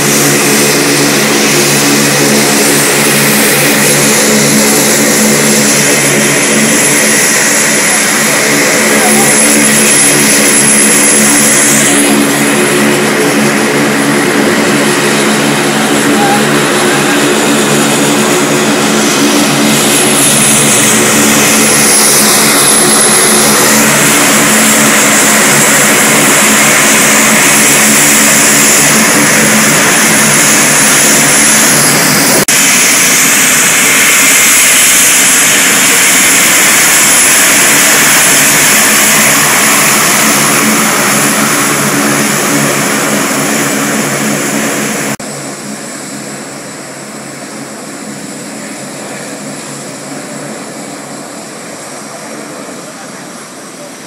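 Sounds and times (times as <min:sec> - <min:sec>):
high engine whine: 0:00.0 - 0:54.0
turboprop aircraft engines: 0:00.0 - 0:54.0.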